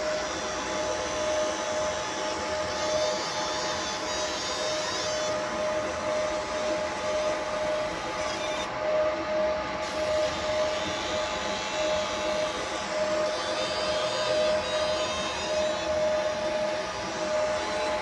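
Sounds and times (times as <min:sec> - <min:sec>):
engraving machine hiss: 0:00.0 - 0:08.7, 0:09.8 - 0:18.0
thin machine whine: 0:00.0 - 0:18.0.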